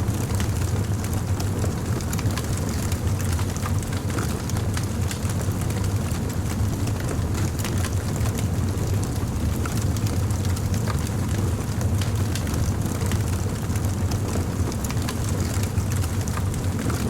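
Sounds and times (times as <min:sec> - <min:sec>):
fire crackling: 0:00.2 - 0:17.0.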